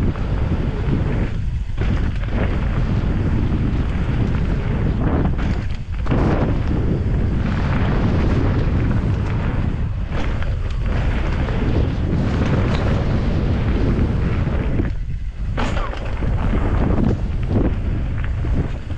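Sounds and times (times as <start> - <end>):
mountain bike rumbling on trail: 0.0 - 18.9
wind buffeting microphone: 0.0 - 18.9.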